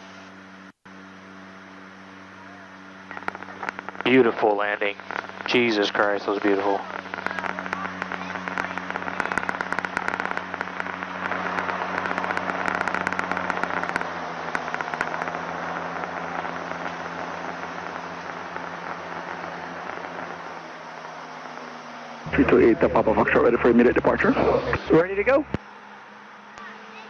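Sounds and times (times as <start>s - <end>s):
turboprop engines droning: 0.0s - 27.0s
dense crackling: 2.6s - 27.0s
rushing noise: 3.1s - 26.5s.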